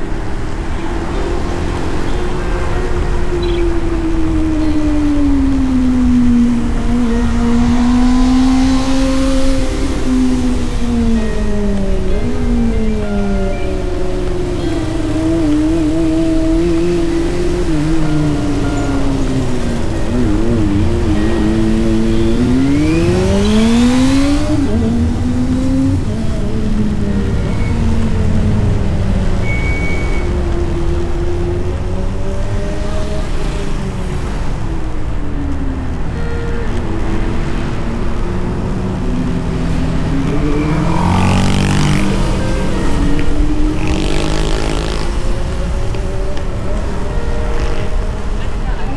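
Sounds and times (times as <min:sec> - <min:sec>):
motorcycle engine accelerating: 0:00.0 - 0:48.9
road and wind hiss: 0:00.0 - 0:48.9.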